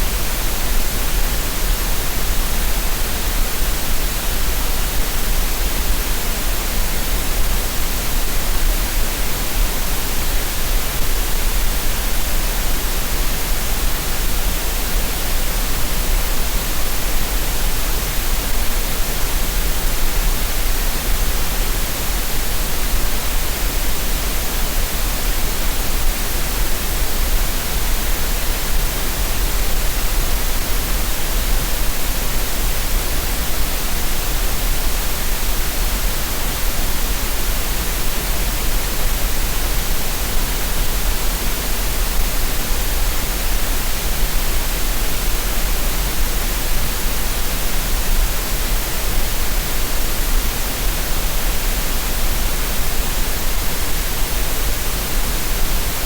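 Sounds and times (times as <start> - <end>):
steady synthesized hiss: 0.0 - 56.0.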